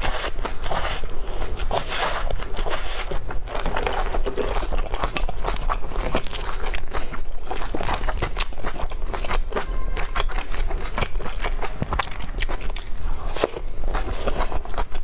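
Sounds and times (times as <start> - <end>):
wet chewing clicks and smacks: 0.0 - 15.0.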